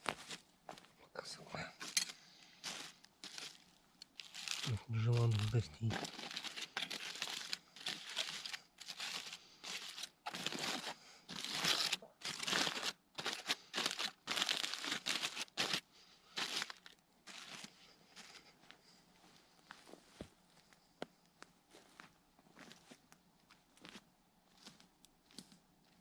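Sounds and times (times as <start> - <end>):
crinkling and rustling: 1.8 - 15.8, 16.4 - 24.0.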